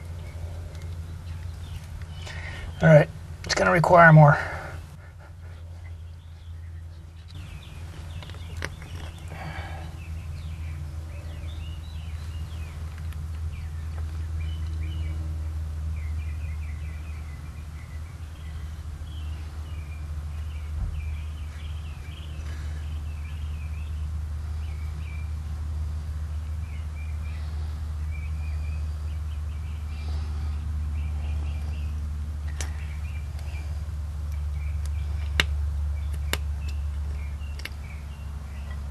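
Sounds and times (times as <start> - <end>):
small birds chirping: 0.0 - 38.9
steady low hum: 0.0 - 38.9.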